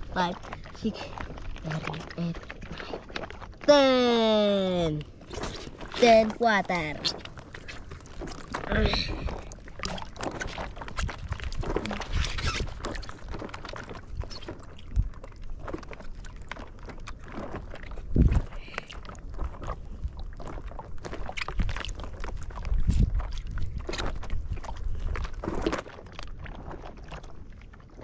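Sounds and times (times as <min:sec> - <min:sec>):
water sloshing around boat: 0:00.0 - 0:28.0.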